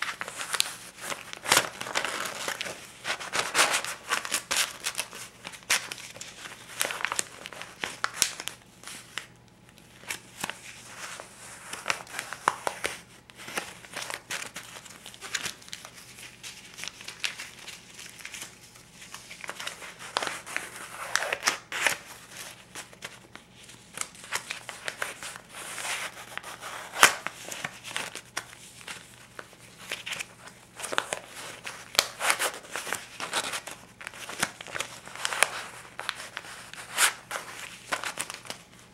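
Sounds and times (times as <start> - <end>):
banknotes rustling: 0.0 - 38.9.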